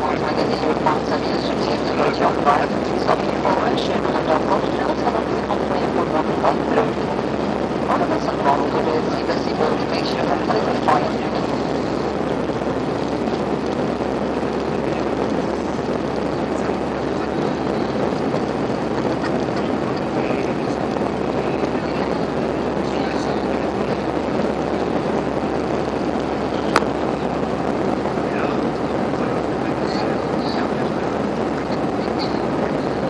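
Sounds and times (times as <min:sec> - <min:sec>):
jet engine cabin noise: 0:00.0 - 0:33.0.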